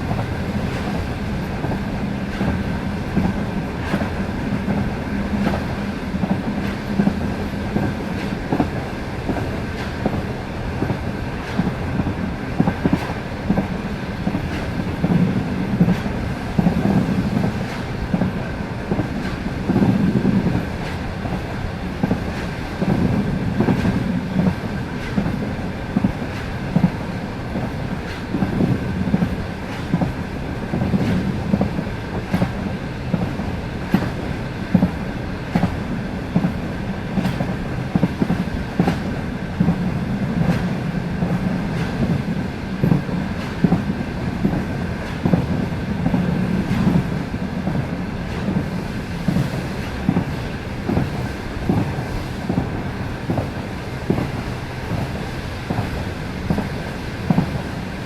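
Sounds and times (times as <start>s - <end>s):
train running rumble: 0.0s - 58.0s
train wheels clacking over rail joints: 0.0s - 58.0s.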